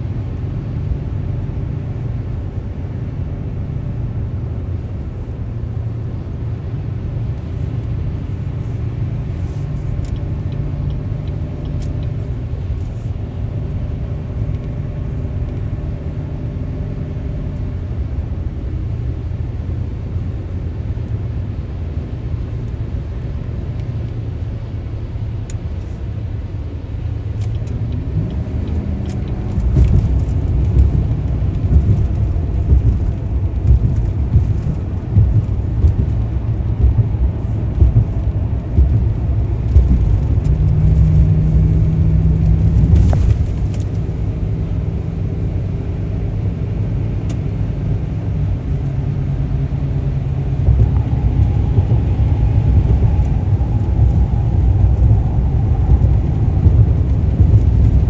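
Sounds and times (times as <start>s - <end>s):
car engine and tyre rumble: 0.0s - 58.0s
faint engine tones: 0.0s - 58.0s.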